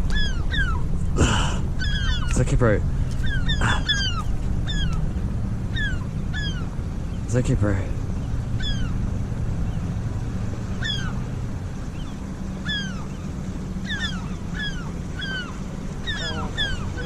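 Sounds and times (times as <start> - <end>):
boat motor humming: 0.0 - 17.0
seagulls calling: 0.0 - 17.0.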